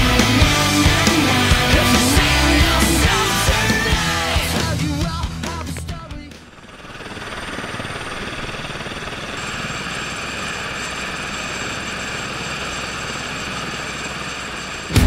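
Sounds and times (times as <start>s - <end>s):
helicopter turbine whine: 0.0s - 15.0s
rotor and engine rush: 0.0s - 15.0s.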